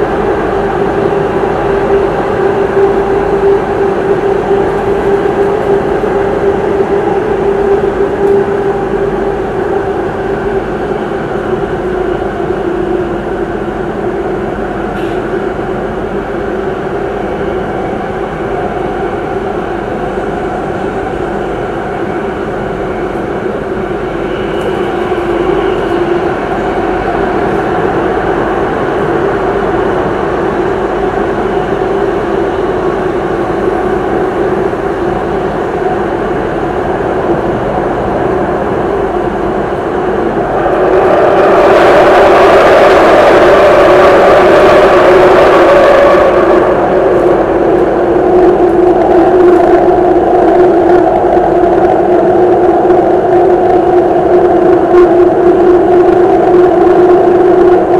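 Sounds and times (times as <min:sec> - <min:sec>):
steady hum: 0:00.0 - 0:57.9
train wheels rumbling in tunnel: 0:00.0 - 0:57.9.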